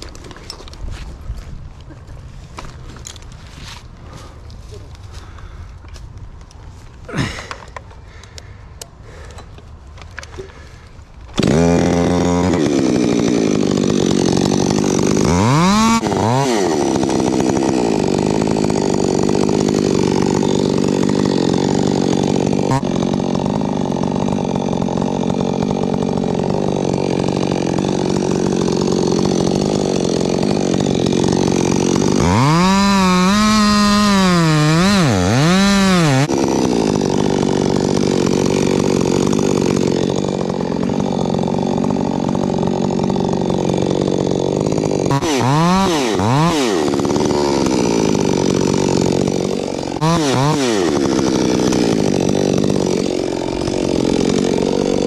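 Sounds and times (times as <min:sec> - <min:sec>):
chainsaw starting and revving: 0:07.1 - 0:55.0.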